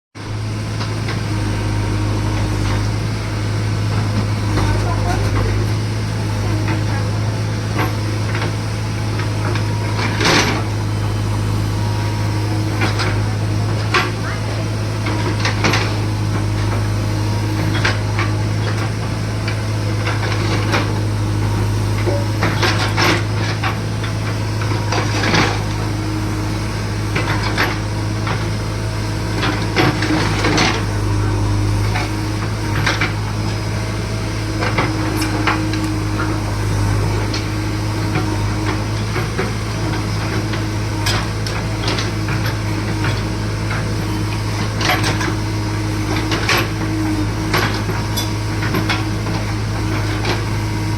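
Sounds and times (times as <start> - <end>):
diesel engine running: 0.2 - 50.9
digger knocks and clanks: 0.4 - 50.9.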